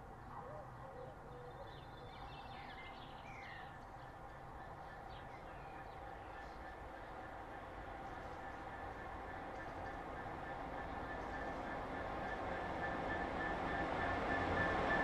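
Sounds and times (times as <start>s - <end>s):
distant locomotive rumble and hum: 0.0s - 15.0s.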